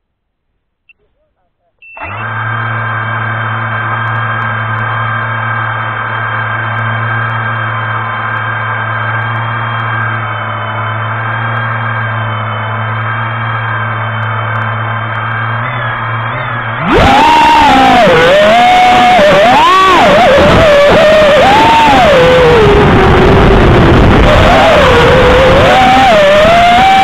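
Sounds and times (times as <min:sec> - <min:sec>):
drone motors humming at idle: 0:01.8 - 0:27.0.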